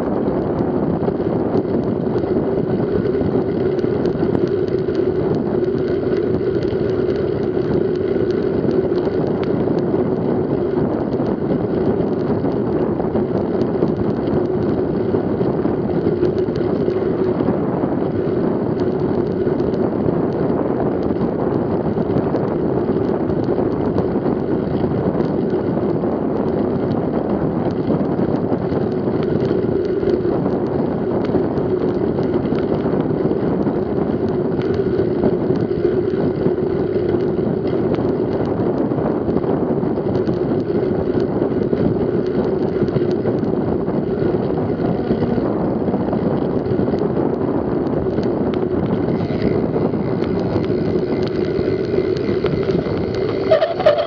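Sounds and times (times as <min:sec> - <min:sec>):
bike tyres humming on asphalt: 0:00.0 - 0:54.0
wind rushing over microphone: 0:00.0 - 0:54.0.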